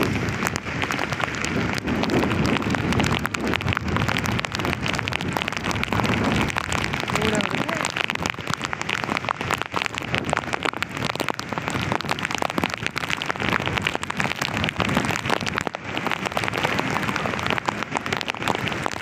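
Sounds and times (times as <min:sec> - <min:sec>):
heavy rain: 0:00.0 - 0:19.0
raindrops pattering: 0:00.0 - 0:19.0.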